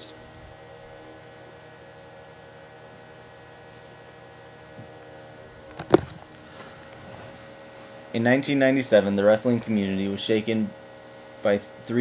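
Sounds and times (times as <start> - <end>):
low electrical hum and hiss: 0.0 - 12.0.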